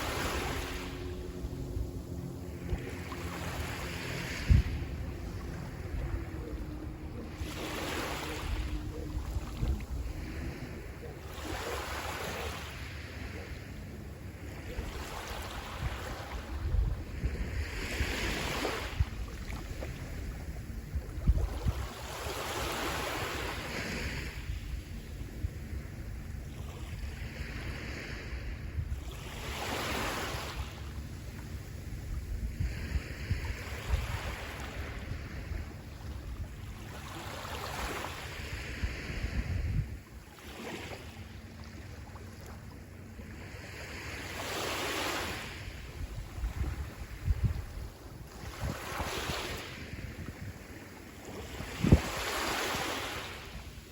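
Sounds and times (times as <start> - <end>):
wind buffeting microphone: 0.0 - 40.3, 45.4 - 53.9
sea waves breaking on shore: 0.0 - 53.9.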